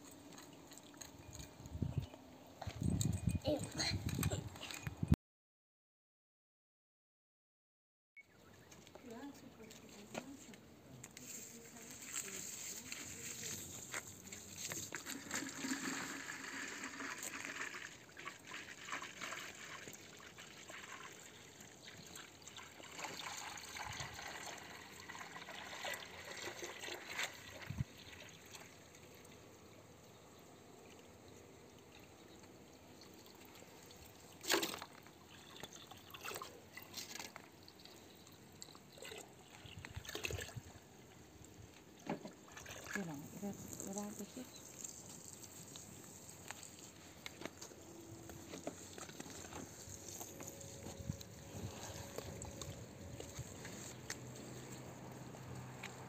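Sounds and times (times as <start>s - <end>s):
water trickling from garden hose: 0.0s - 1.8s, 11.1s - 56.0s.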